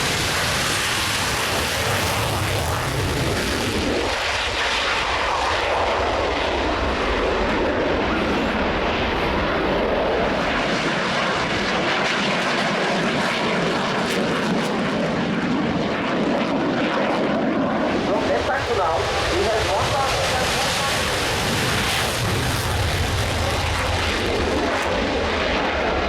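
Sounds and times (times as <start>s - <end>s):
aircraft engines rushing: 0.0s - 26.0s.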